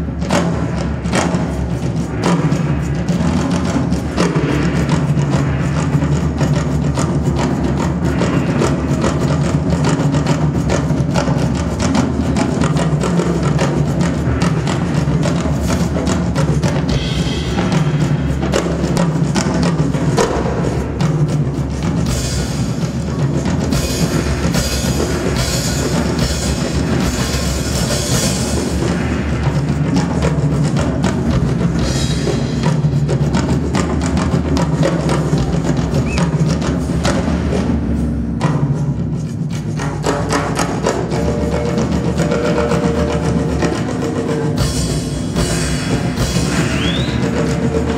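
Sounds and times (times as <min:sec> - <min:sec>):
fast drum kit playing: 0:00.0 - 0:47.9.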